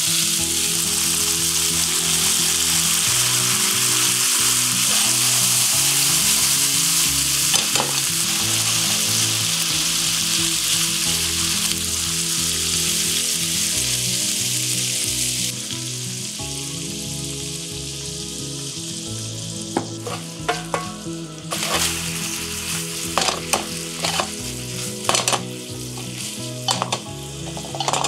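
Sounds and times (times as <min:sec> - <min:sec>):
meat sizzling in a frying pan: 0:00.0 - 0:28.0.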